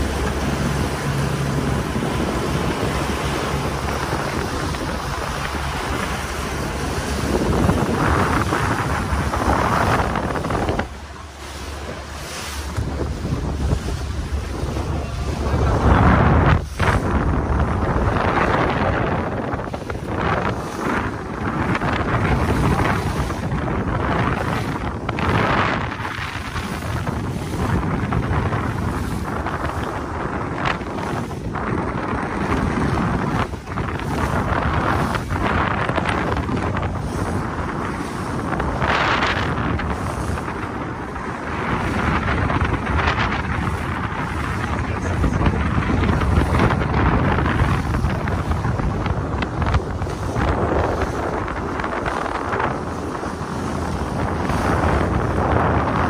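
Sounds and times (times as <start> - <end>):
water rushing along hull: 0.0 - 56.0
wind buffeting microphone: 0.0 - 56.0.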